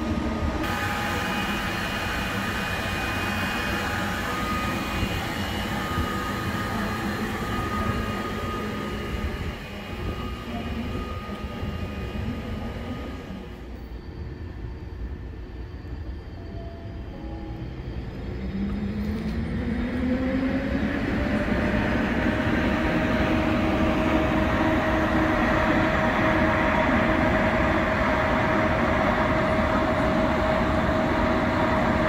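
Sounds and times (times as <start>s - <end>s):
faint train whine: 0.0s - 32.0s
train wheels rumbling on rail: 0.0s - 32.0s.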